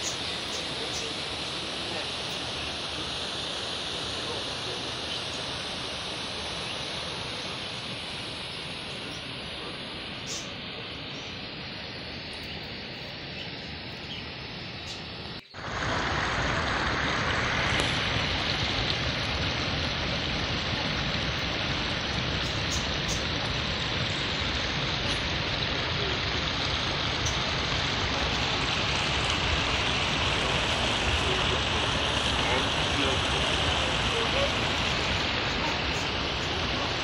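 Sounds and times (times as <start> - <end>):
white water pouring over ledge: 0.0 - 12.4, 15.6 - 37.0
small waterfall into pool: 0.0 - 12.8, 14.8 - 37.0.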